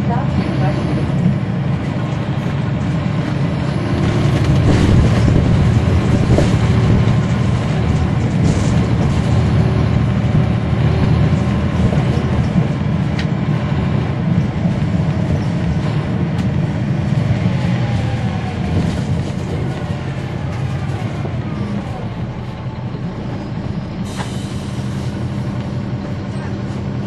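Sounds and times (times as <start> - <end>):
bus body rattles: 0.0 - 27.0
diesel engine rumble: 0.0 - 27.0
road noise: 0.0 - 27.0.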